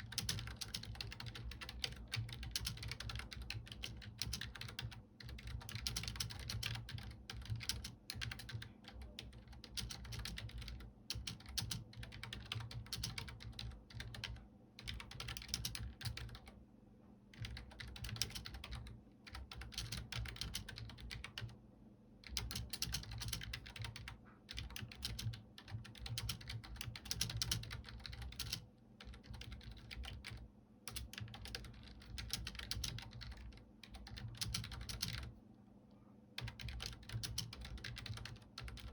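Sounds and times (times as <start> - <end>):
computer keyboard typing: 0.0 - 16.6, 17.3 - 21.6, 22.2 - 35.4, 36.4 - 38.9.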